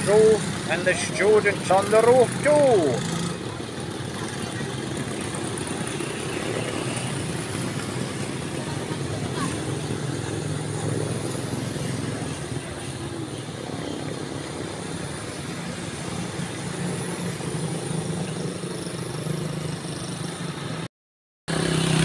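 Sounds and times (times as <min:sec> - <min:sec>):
low traffic engine hum: 0:00.0 - 0:20.9
motorcycles passing close: 0:00.0 - 0:20.9, 0:21.5 - 0:22.0.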